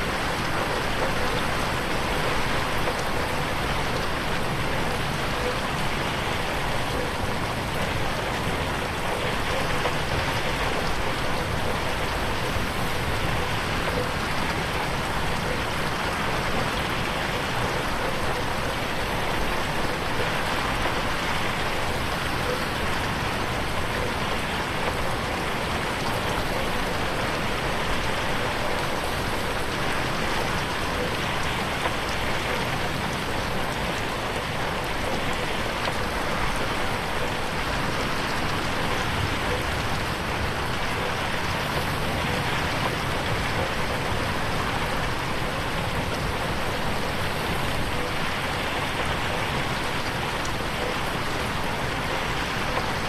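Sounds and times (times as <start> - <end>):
rain on a window pane: 0.0 - 53.0.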